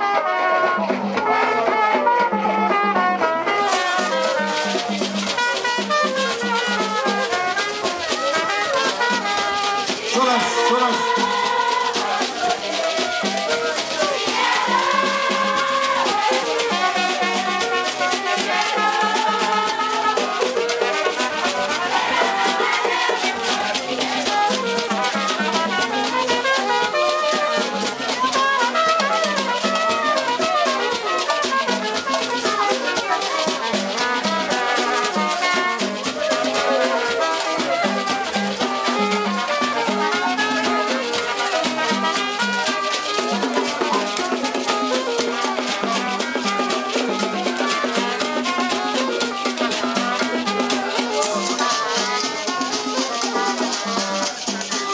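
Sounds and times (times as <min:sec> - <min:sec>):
drums: 0:00.0 - 0:54.9
horn-like melodic lines: 0:00.0 - 0:54.9
shaken rattles: 0:03.7 - 0:54.9.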